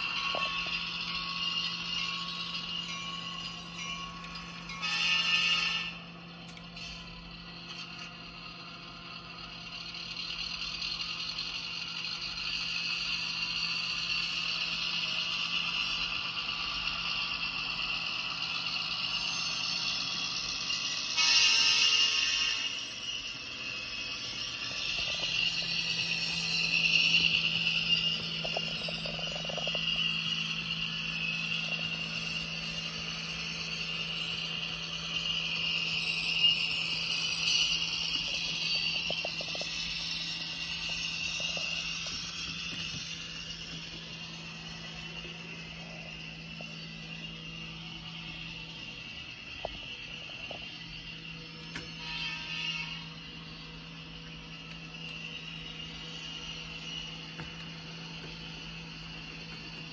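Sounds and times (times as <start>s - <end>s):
diesel engine sound through small speaker: 0.0s - 59.9s.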